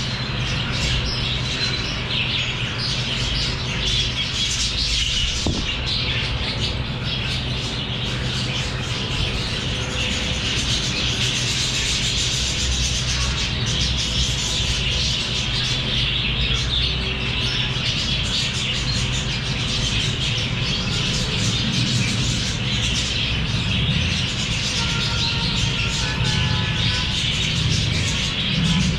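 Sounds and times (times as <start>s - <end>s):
birds chattering: 0.0s - 28.9s
steady low hum: 0.0s - 28.9s.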